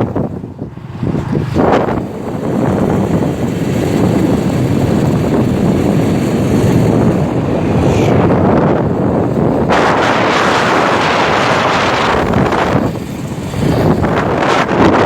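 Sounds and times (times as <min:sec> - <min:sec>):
vehicle and road noise: 0:00.0 - 0:15.0
wind buffeting microphone: 0:00.0 - 0:15.0.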